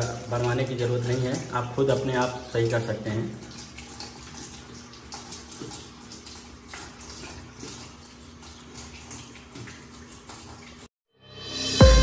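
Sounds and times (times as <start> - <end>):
water pouring into washing machine: 0.0 - 10.9.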